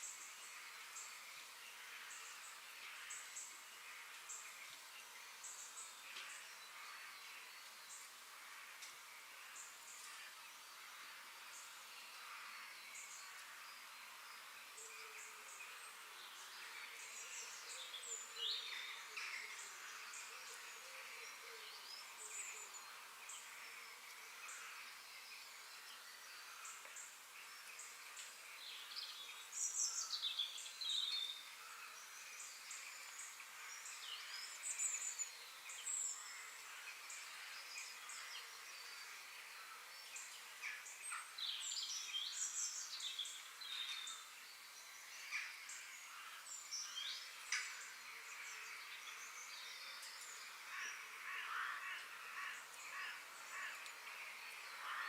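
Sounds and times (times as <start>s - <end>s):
birds chirping and singing: 9.5s - 55.0s.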